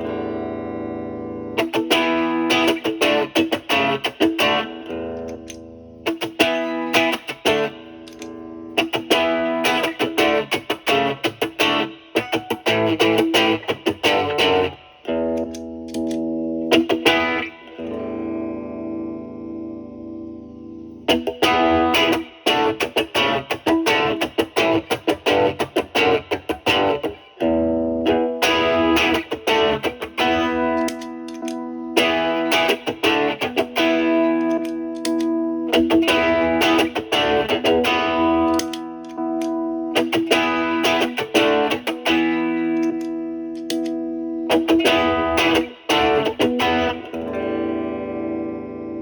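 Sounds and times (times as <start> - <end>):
distorted electric guitar riff: 0.0 - 49.0.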